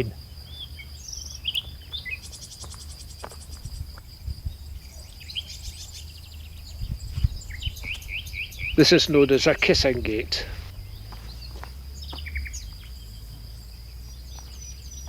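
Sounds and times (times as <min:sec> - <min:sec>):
low wind rumble: 0:00.0 - 0:15.0
small birds chirping: 0:00.0 - 0:15.0.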